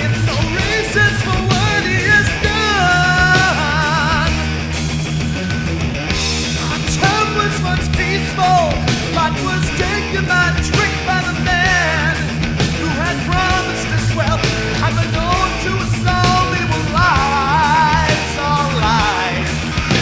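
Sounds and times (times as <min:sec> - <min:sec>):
person singing with vibrato: 0:00.0 - 0:04.5, 0:06.6 - 0:20.0
rock music: 0:00.0 - 0:20.0.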